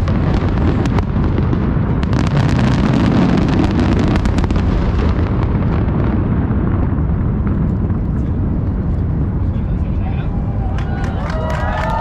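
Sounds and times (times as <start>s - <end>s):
fireworks bangs and crackles: 0.0s - 12.0s
heavy low rumble: 0.0s - 12.0s.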